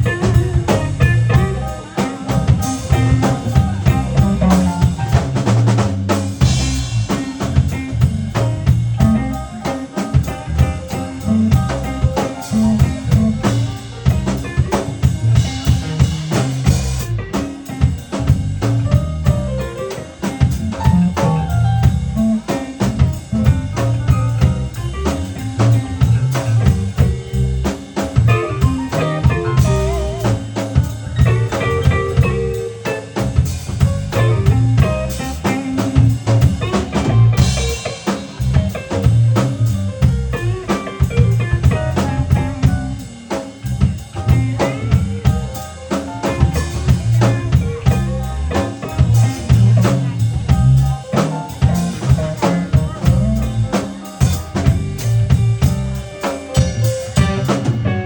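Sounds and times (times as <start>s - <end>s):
keyboard music: 0.0s - 58.0s
steady drum beat: 0.0s - 58.0s.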